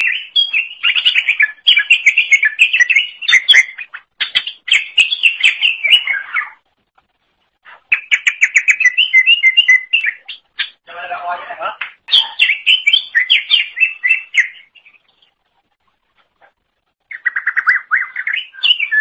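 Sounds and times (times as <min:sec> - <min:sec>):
bird singing chattering song: 0:00.0 - 0:06.7, 0:07.7 - 0:19.0.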